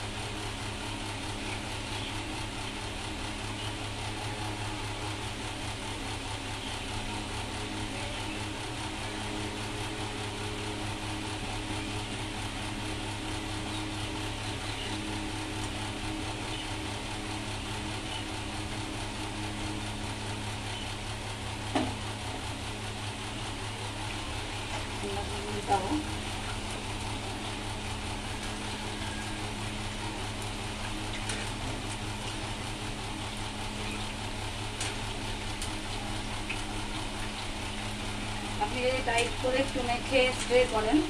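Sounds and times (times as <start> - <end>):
electric hum: 0.0 - 41.0.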